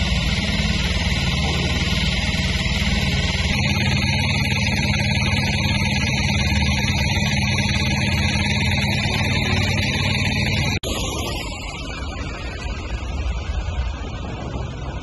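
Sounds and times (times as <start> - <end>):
engines droning: 0.0 - 15.0.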